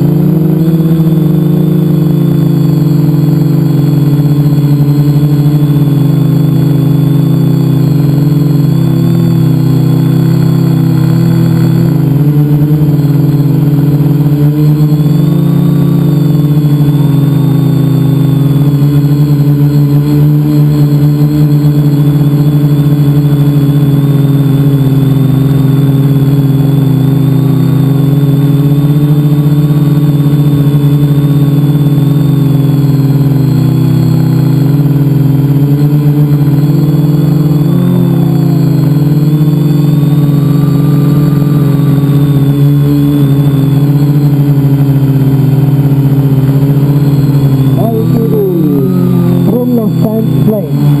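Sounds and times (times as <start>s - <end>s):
drone motors buzzing: 0.0s - 51.0s.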